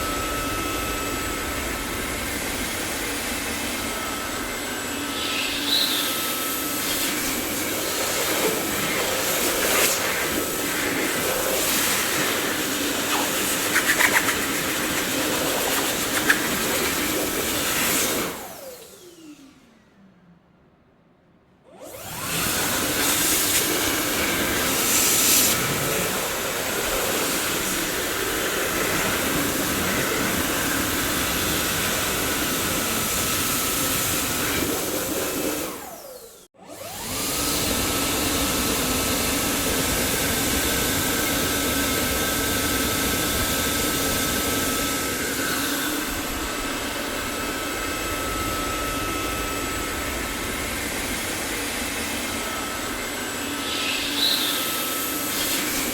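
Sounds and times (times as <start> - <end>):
vacuum cleaner running: 0.0 - 20.1, 21.6 - 55.9.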